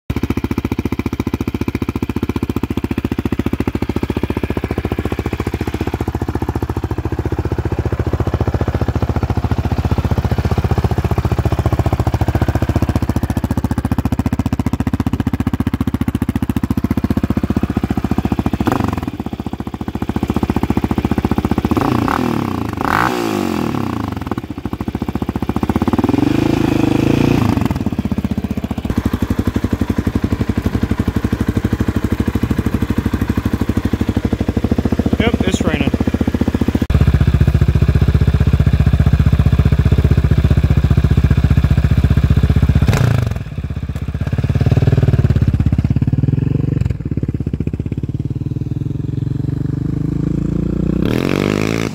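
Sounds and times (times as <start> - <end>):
quad engine idling and revving: 0.1 - 51.9.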